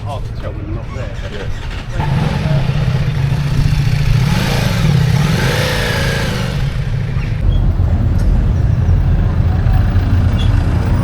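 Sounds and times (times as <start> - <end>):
motorcycle engine running: 1.5 - 11.0.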